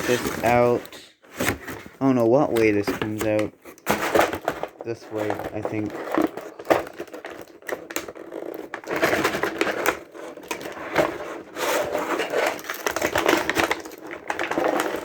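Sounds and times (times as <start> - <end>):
cardboard and plastic packaging handled: 0.0 - 15.0.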